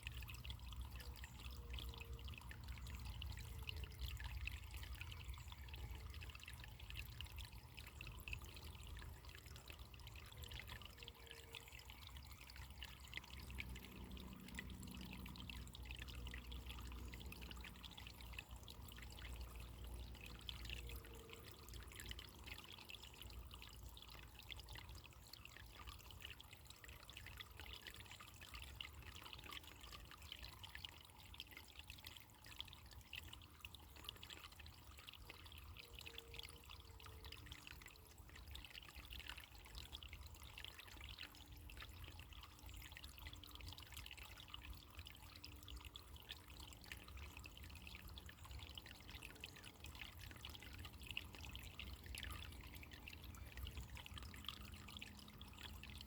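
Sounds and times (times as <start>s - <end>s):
stream trickling: 0.0s - 56.0s.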